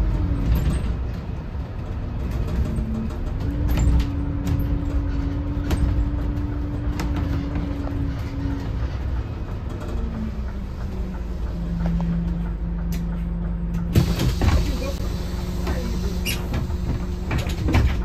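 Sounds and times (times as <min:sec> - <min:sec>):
bus engine and road noise: 0:00.0 - 0:18.0
engine whine: 0:00.0 - 0:18.0.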